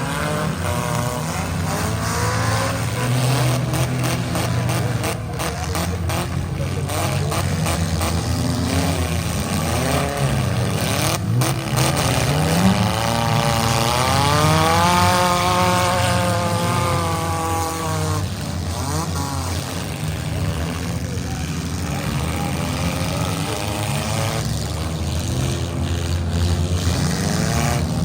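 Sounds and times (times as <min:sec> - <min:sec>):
car engines running hard: 0:00.0 - 0:28.0
engine revving: 0:00.0 - 0:28.0.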